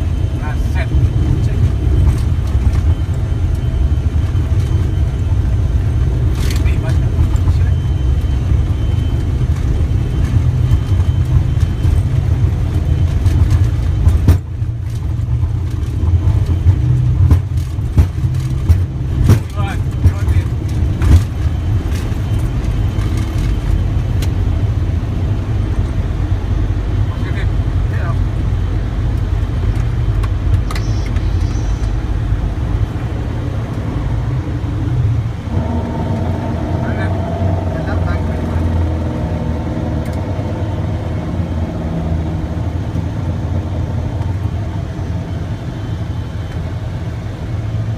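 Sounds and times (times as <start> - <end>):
aircraft engine rumble: 0.0 - 47.9.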